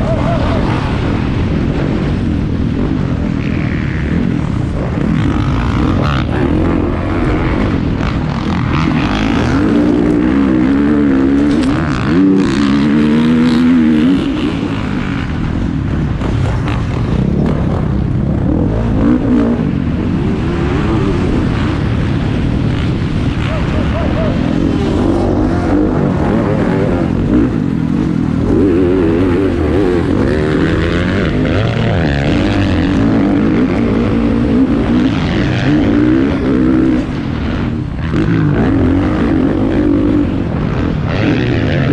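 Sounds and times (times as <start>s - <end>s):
motocross engines revving: 0.0s - 41.9s.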